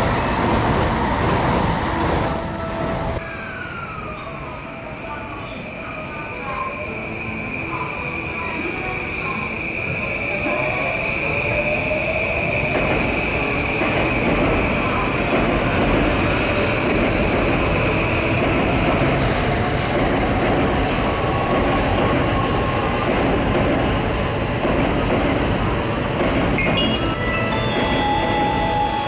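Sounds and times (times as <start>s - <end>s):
train wheels rumbling on rails: 0.0s - 3.2s, 7.7s - 29.0s.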